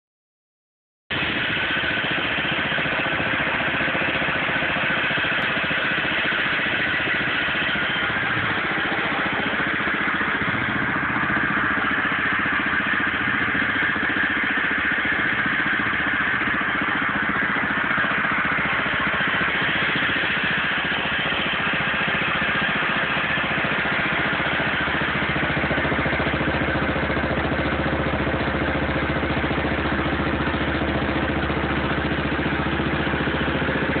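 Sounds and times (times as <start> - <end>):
garden tractor engine idling: 1.1 - 34.0.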